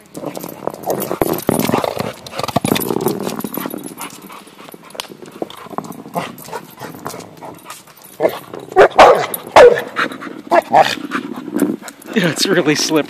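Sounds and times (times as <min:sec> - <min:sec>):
teeth and claws scraping metal ball: 0:00.0 - 0:13.0
dog growling: 0:00.1 - 0:04.6, 0:05.5 - 0:12.2.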